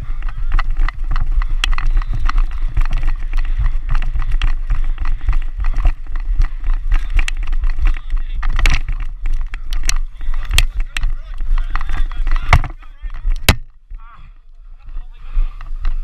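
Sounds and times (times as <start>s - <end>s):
clicks and knocks on helmet camera: 0.0s - 14.0s
wind rumble on camera: 0.0s - 16.0s.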